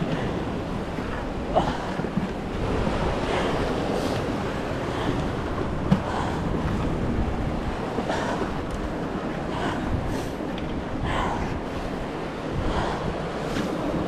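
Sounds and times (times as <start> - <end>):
ocean waves washing against jetty: 0.0 - 14.0
wind buffeting microphone: 0.0 - 14.0.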